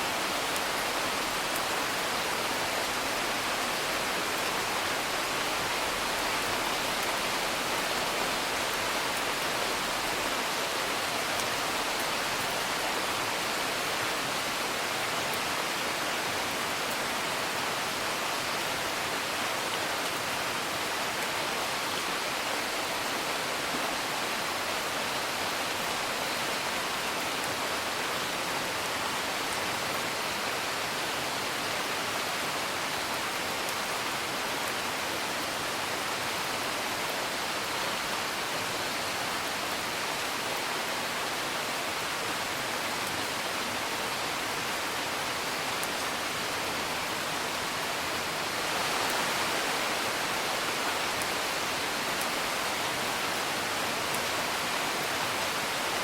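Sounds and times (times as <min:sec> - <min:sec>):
steady rain heard indoors: 0:00.0 - 0:56.0.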